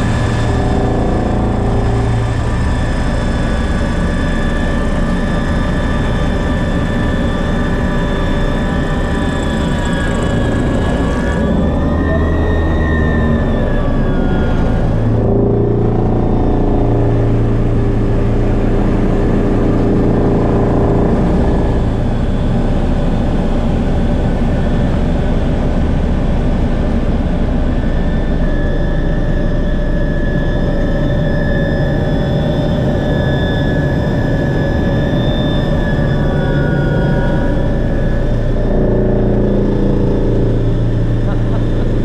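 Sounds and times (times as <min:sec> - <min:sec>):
helicopter rotor drone: 0:00.0 - 0:42.0
helicopter turbine whine: 0:00.0 - 0:42.0.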